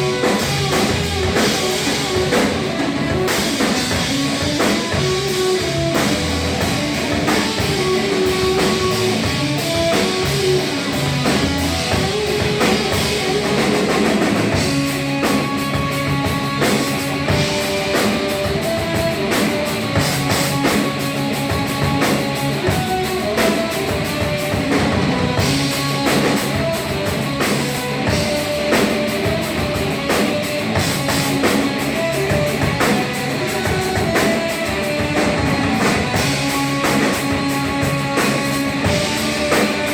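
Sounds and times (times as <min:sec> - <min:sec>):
bass riffs: 0:00.0 - 0:39.9
distorted electric guitar: 0:00.0 - 0:39.9
pounding drum kit: 0:00.0 - 0:39.9.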